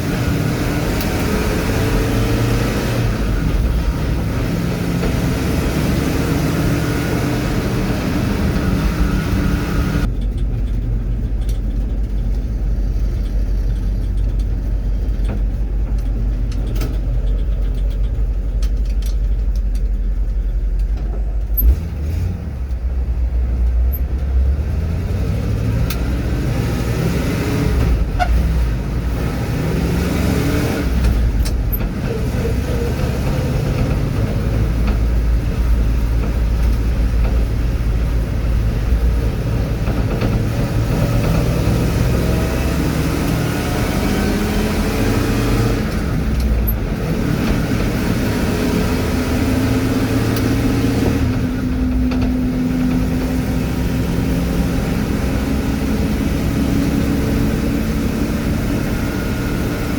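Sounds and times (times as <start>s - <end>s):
road noise: 0.0s - 59.9s
truck engine: 0.0s - 59.9s.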